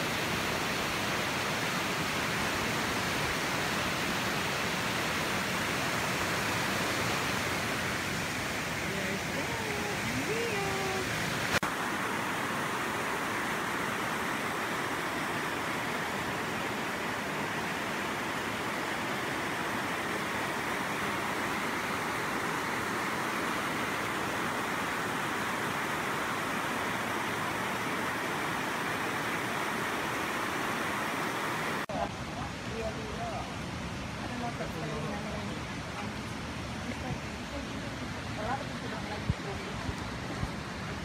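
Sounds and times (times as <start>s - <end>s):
river rushing over boulders: 0.0s - 41.0s.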